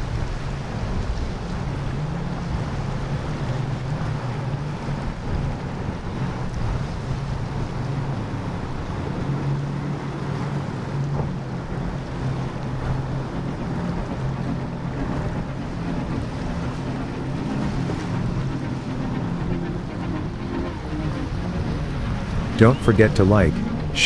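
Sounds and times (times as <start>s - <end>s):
powerboat engines droning: 0.0s - 24.0s
water rushing: 0.0s - 24.0s
wind buffeting microphone: 0.0s - 24.0s.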